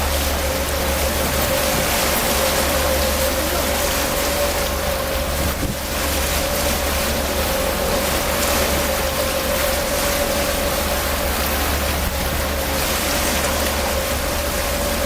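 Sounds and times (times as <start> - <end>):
boat engine rumbling: 0.0 - 15.0
rushing wind and water: 0.0 - 15.0.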